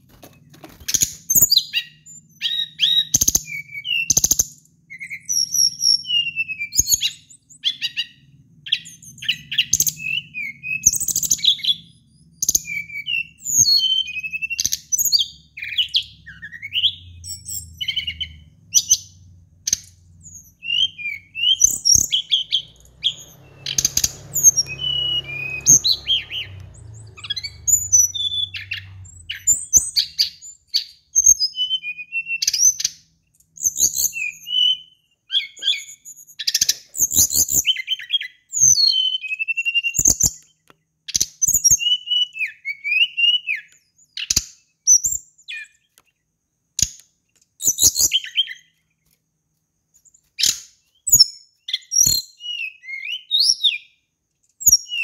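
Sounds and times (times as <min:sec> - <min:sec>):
bird singing chirps and trills: 0:00.0 - 0:46.9, 0:47.5 - 0:49.1, 0:50.1 - 0:55.0.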